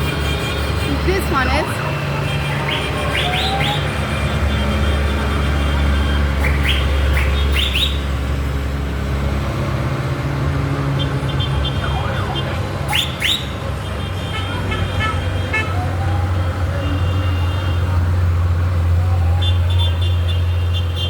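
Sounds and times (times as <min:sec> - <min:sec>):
tractor engines rumbling: 0:00.0 - 0:21.0.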